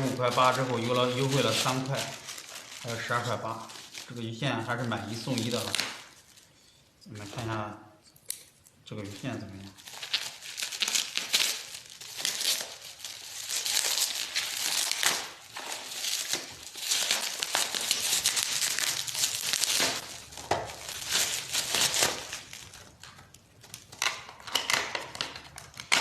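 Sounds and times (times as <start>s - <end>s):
plastic packaging crinkling: 0.0s - 7.6s, 8.4s - 26.0s.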